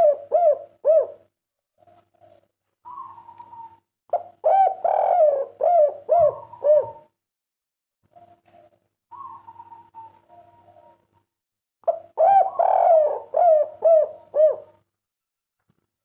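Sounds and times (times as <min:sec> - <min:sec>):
dove cooing: 0:00.0 - 0:07.2, 0:08.1 - 0:11.2, 0:11.8 - 0:14.8.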